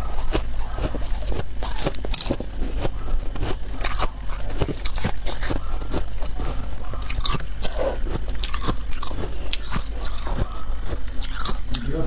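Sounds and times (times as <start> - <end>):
person chewing ice crunching: 0.0 - 12.0.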